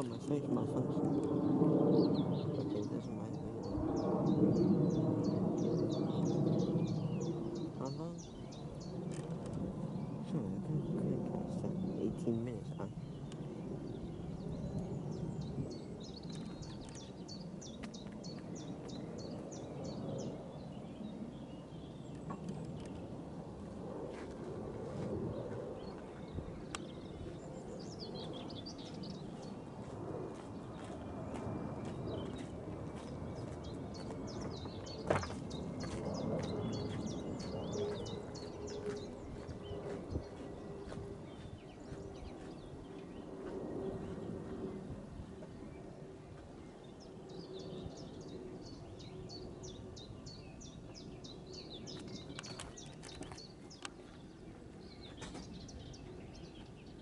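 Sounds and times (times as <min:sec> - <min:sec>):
low outdoor background hum: 0:00.0 - 0:57.0
small birds chirping: 0:00.0 - 0:57.0.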